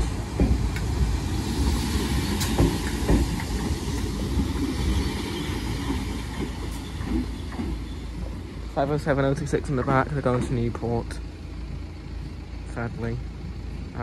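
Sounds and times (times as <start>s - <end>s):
train wheels rumbling over rails: 0.0s - 14.0s.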